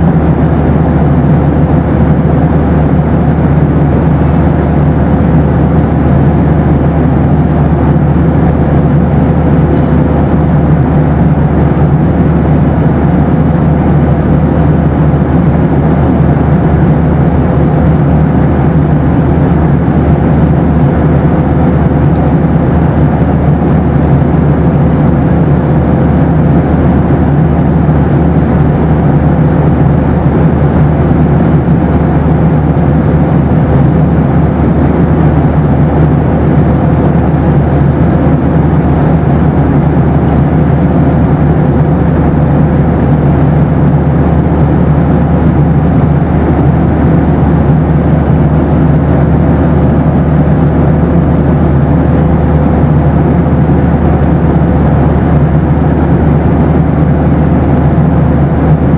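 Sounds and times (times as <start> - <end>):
airplane cabin noise: 0.0 - 58.9.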